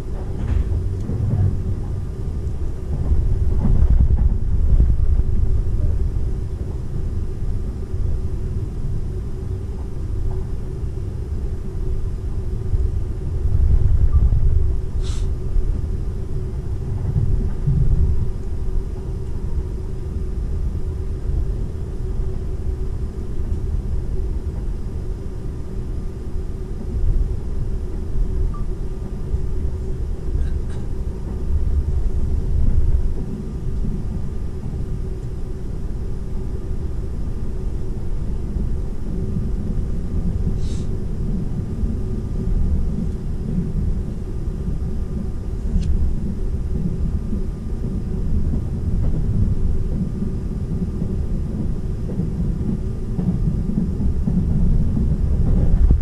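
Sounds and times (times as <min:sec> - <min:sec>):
faint steady hum: 0:00.0 - 0:56.0
train wheels rumbling on rail: 0:00.0 - 0:56.0.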